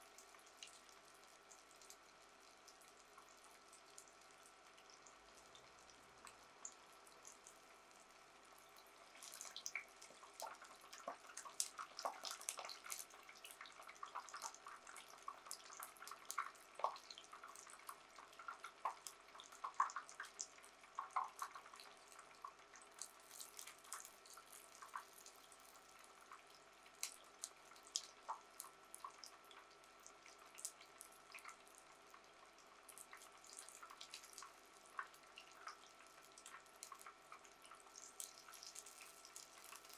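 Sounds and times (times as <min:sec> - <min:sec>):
oil bubbling crackles and pops: 0:00.0 - 0:39.9.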